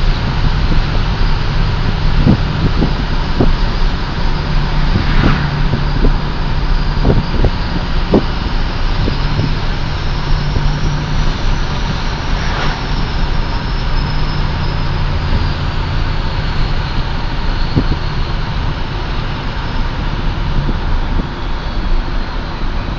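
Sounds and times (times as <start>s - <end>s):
diesel truck engine idling: 0.0s - 22.9s
high turbo whistle: 0.0s - 22.9s.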